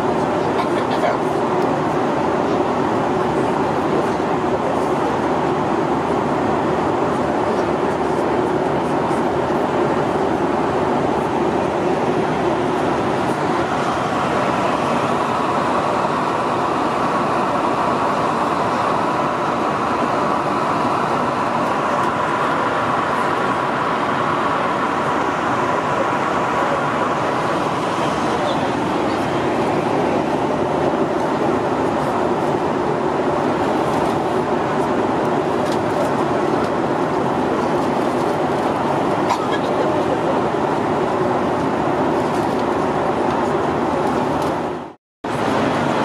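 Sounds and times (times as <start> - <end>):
airplane cabin airflow and engine hum: 0.0 - 46.0.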